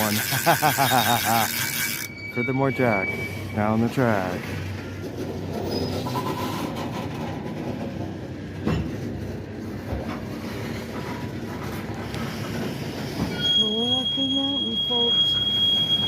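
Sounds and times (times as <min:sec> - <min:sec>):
freight train cars rolling: 0:00.0 - 0:16.0.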